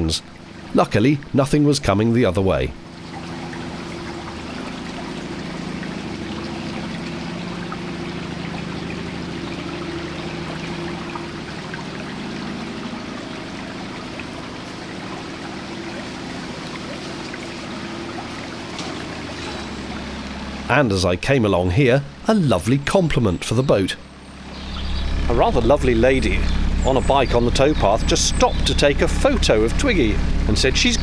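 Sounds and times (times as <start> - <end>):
outboard motor running: 0.0 - 31.0
water trickling and splashing: 0.0 - 31.0.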